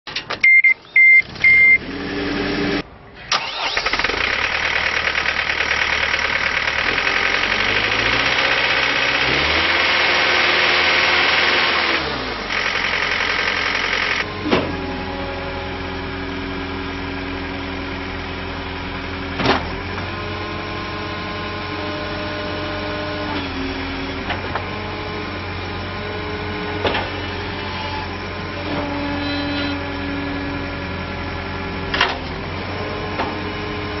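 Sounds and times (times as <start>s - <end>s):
diesel engine starting and idling: 0.4s - 34.0s.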